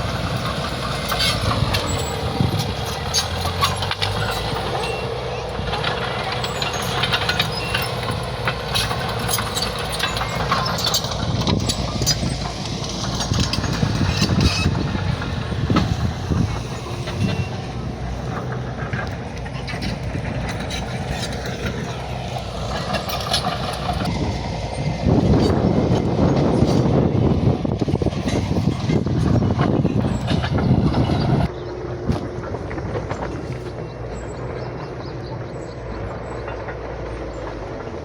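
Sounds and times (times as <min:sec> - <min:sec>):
bulldozer diesel engine: 0:00.0 - 0:38.0
metallic clanks of crawler tracks: 0:00.0 - 0:38.0.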